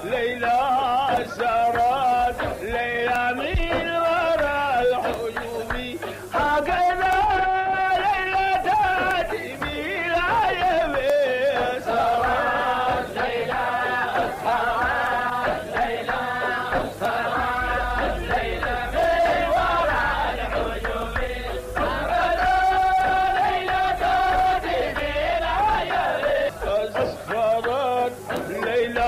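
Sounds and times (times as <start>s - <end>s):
man chanting devotional song: 0.0s - 29.0s.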